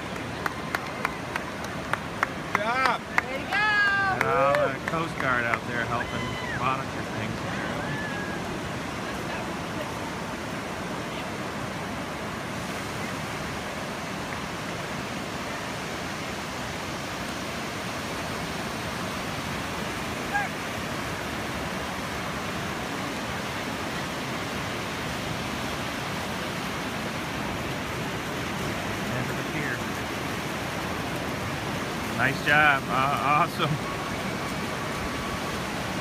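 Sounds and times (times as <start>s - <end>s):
ocean surf breaking: 0.0s - 36.0s.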